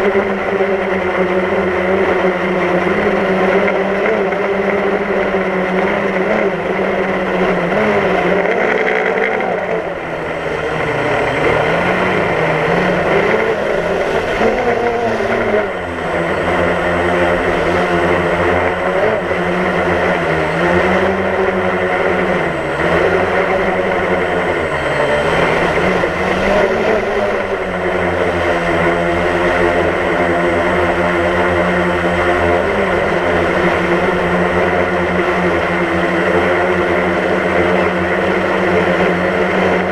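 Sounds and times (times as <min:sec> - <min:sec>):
drone motors and propellers buzzing: 0:00.0 - 0:39.9.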